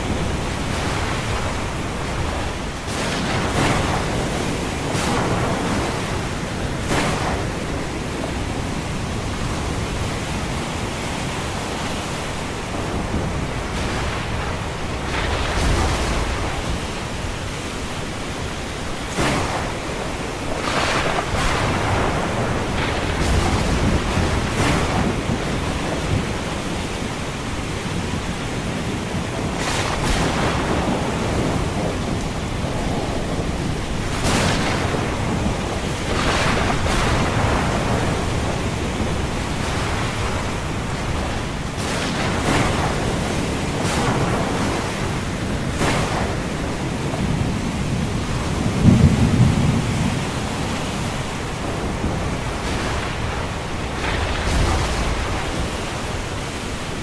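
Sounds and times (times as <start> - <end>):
ocean waves: 0.0 - 57.0
rain: 0.0 - 57.0
thunder rumbling: 0.0 - 57.0.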